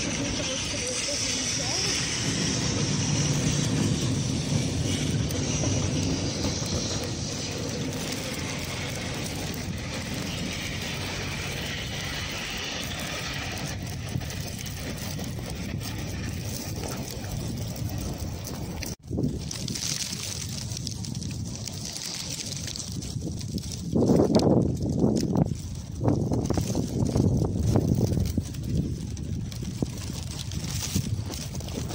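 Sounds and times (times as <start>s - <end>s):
tram rumbling on rails: 0.0s - 31.9s.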